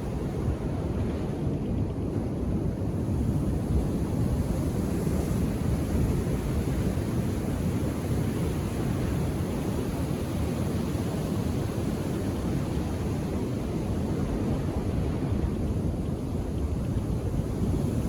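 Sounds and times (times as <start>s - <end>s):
low rumble of surf: 0.0s - 18.0s.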